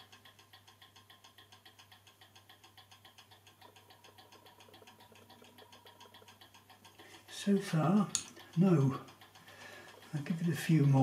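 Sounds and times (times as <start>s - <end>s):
mechanical clock ticking: 0.0s - 11.0s
low steady hum: 0.3s - 11.0s.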